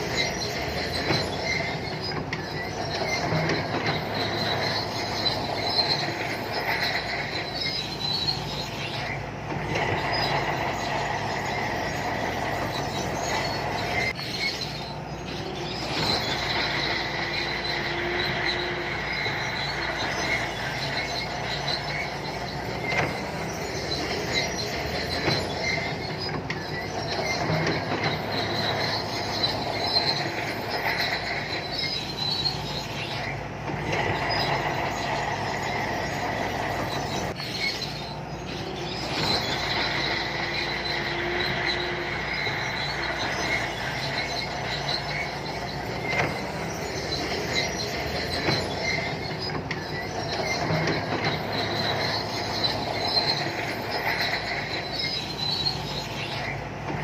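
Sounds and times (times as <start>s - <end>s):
diesel engine running: 0.0s - 57.0s
steel tracks squealing and clattering: 0.0s - 57.0s.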